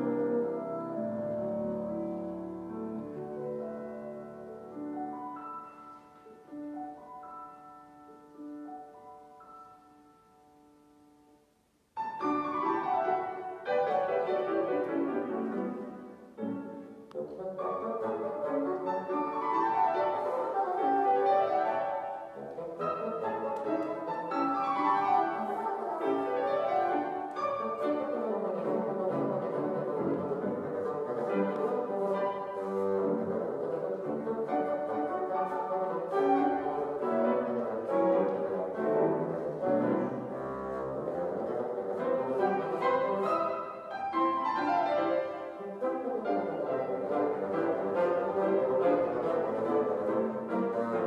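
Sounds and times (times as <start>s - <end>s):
bassoon: 0.0s - 10.0s, 12.0s - 51.0s
grand piano: 0.0s - 51.0s.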